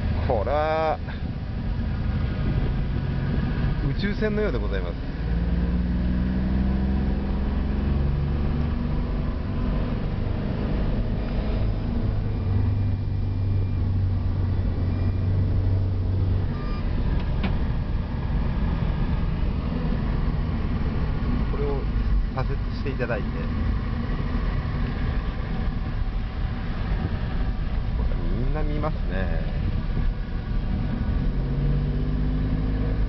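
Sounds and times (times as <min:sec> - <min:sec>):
car engine droning: 0:00.0 - 0:33.0
road noise: 0:00.0 - 0:33.0.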